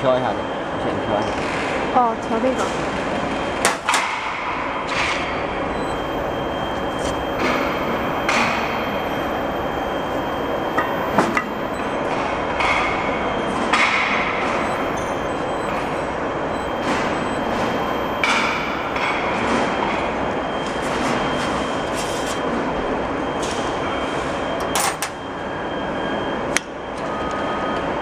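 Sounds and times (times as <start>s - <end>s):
machinery running: 0.0s - 28.0s.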